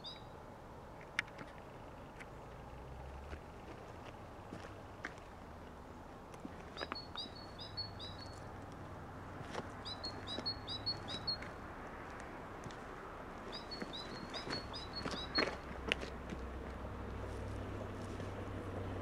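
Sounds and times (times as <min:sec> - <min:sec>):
songbird singing: 0:00.0 - 0:18.6.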